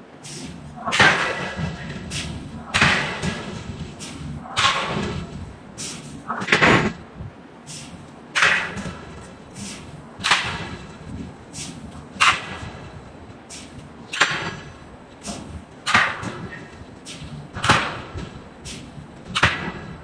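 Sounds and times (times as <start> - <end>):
forging hammer striking steel: 0.3 - 7.1, 7.8 - 20.0.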